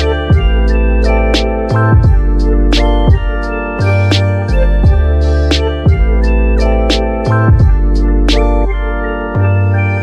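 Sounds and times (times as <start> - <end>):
sharp beat hit: 0.0 - 8.6
deep bass line: 0.0 - 10.0
keyboard chords: 0.0 - 10.0.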